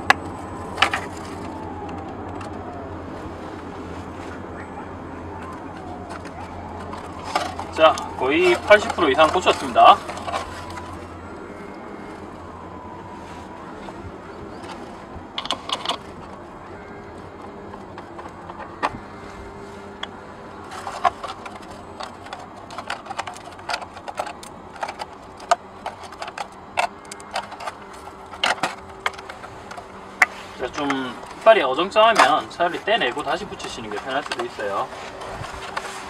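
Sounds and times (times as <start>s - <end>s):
foam creaking and crackling: 0.0s - 36.0s.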